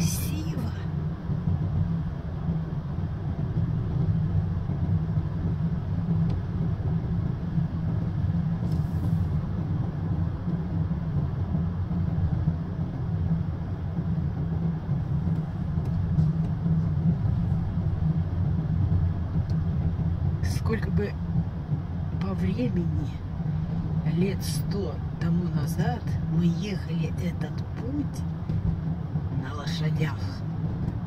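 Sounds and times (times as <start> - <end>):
vehicle cabin engine and tyre rumble: 0.0 - 31.0.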